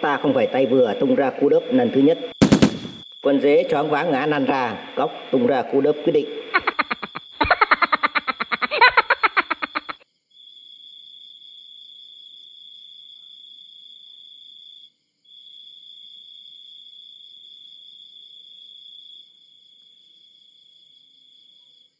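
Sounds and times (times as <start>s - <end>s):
cricket trilling: 0.0s - 21.9s.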